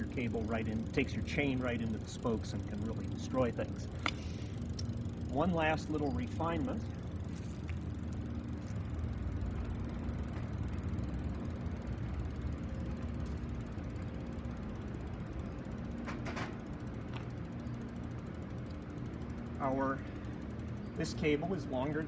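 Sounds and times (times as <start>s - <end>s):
bicycle drivetrain turning: 0.0s - 22.0s
freewheel ratchet clicking: 0.0s - 22.0s.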